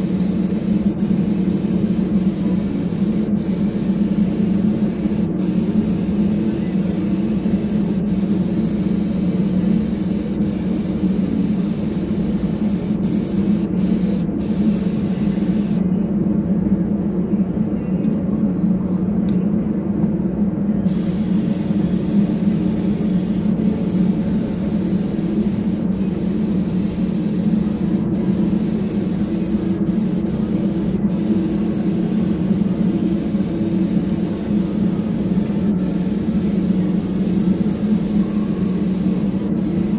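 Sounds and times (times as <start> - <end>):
spray gun hissing: 0.0 - 15.8, 20.9 - 39.9
steady low hum: 0.0 - 39.9.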